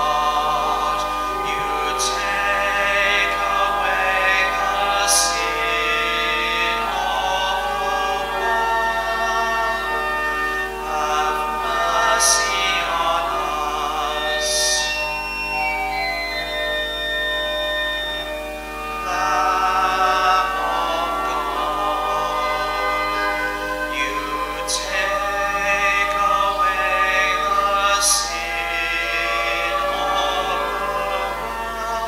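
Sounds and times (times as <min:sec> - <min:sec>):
organ-like chords: 0:00.0 - 0:32.0
voices singing slow sacred song: 0:00.0 - 0:32.0.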